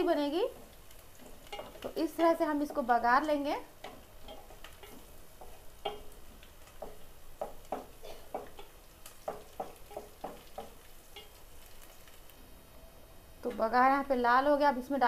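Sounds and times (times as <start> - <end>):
oil sizzling: 0.0 - 15.0.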